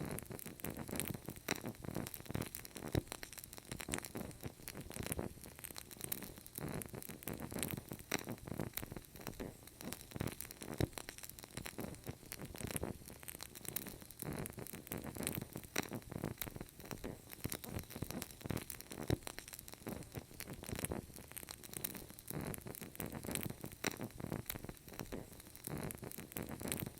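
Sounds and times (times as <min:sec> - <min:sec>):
fire burning with crackles: 0:00.0 - 0:26.9.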